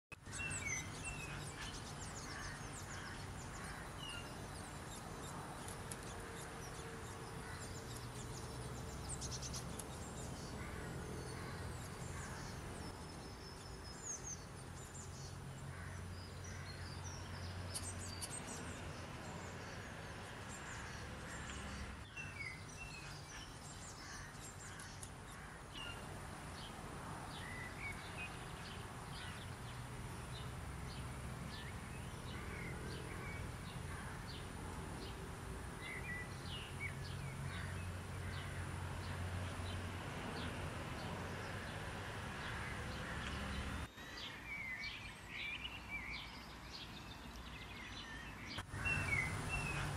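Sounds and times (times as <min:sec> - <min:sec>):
small birds chirping and singing: 0:00.1 - 0:49.9.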